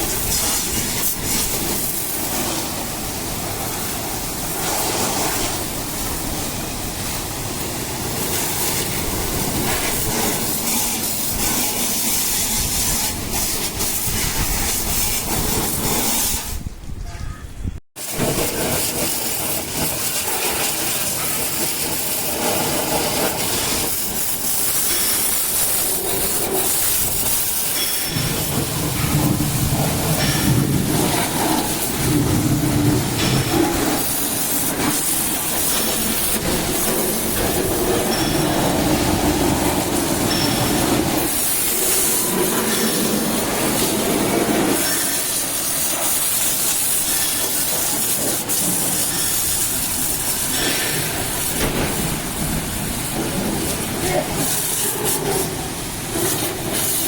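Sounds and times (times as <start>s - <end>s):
water jet hissing: 0.0s - 16.7s, 18.0s - 57.0s.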